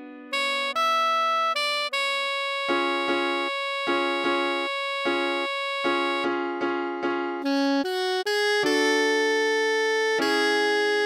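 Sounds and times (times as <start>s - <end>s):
electric piano chords: 0.0s - 11.0s
synthesized pop melody: 0.0s - 11.0s.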